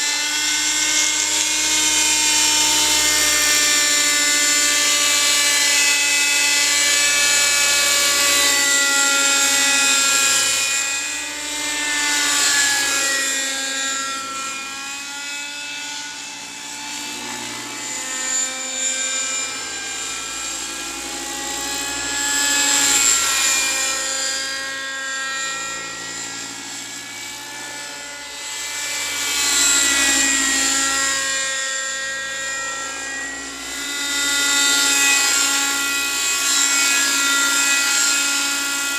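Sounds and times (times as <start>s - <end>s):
model helicopter engine whine: 0.0s - 38.9s.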